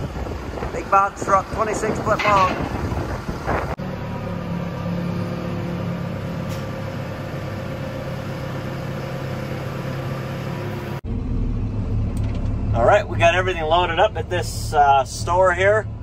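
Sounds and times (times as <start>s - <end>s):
loader engine running: 0.0s - 16.0s.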